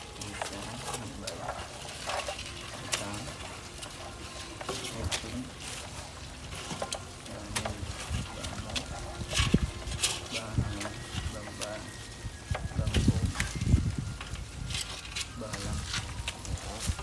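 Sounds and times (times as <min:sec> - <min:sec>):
leaves rustling: 0:00.0 - 0:17.0.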